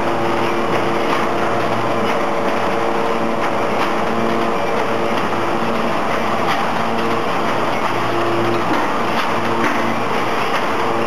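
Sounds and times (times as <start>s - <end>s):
bag making machine running: 0.0s - 11.0s
sharp machine clacks: 0.0s - 11.0s.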